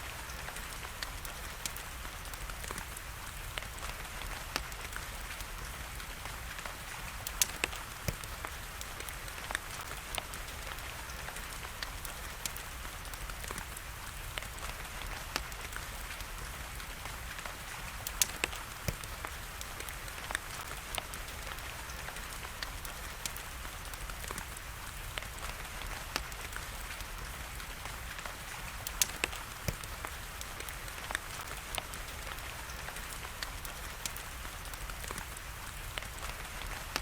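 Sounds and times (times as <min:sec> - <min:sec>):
rain hiss: 0:00.0 - 0:37.0
wood fire crackling: 0:00.0 - 0:37.0.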